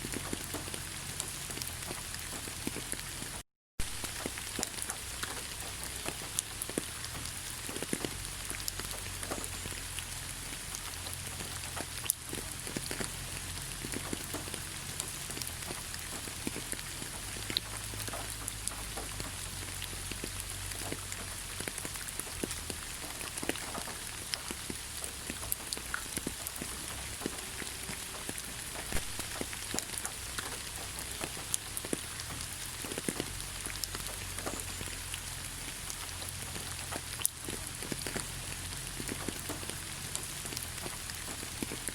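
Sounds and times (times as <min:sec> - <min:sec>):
drops dripping on leaves: 0:00.0 - 0:41.9
rain falling in a forest: 0:00.0 - 0:41.9.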